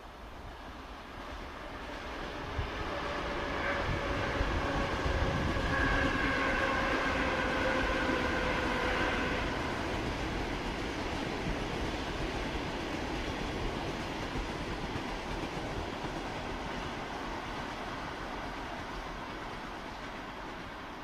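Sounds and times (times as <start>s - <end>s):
electric train passing: 0.0s - 21.0s
whine of steady tones: 0.0s - 21.0s.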